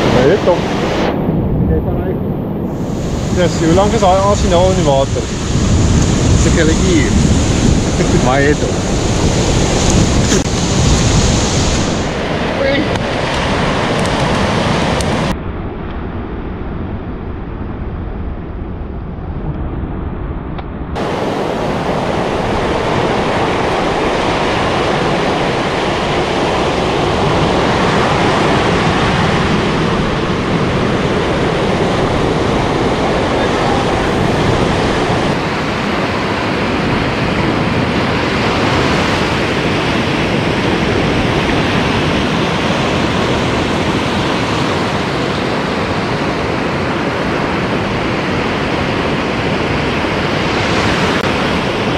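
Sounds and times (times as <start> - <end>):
surf washing up beach: 0.0 - 15.3, 21.0 - 51.9
wind on microphone: 0.0 - 51.9.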